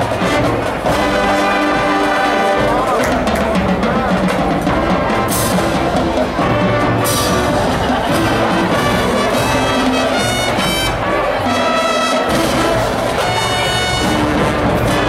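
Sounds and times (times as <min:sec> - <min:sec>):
brass playing held chords: 0:00.0 - 0:03.1, 0:04.6 - 0:15.0
drums: 0:00.0 - 0:15.0.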